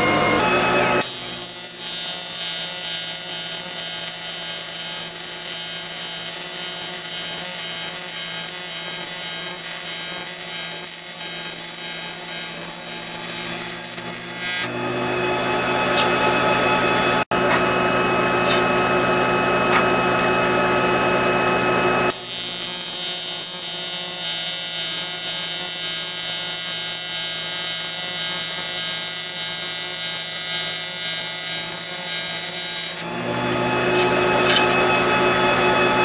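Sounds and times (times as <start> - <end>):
welding arc buzzing: 0.0 - 36.0.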